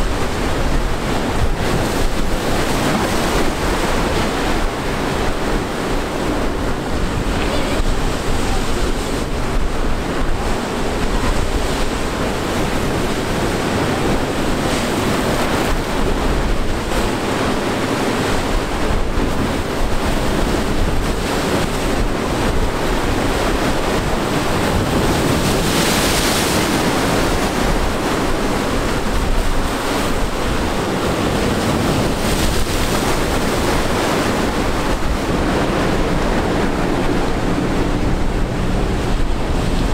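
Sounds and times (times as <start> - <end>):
waves breaking against rocks: 0.0 - 39.9
wind buffeting microphone: 0.0 - 39.9.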